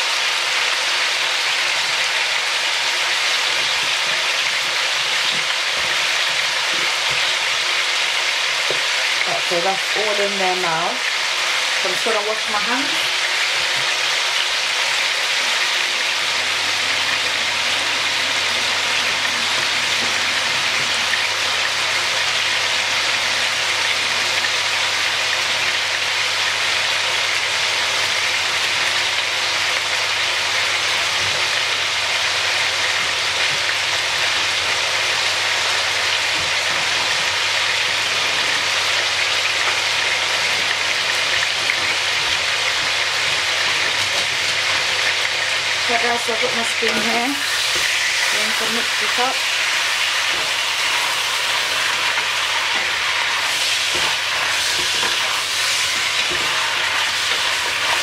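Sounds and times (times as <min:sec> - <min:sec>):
meat sizzling in a pot: 0:00.0 - 0:58.0.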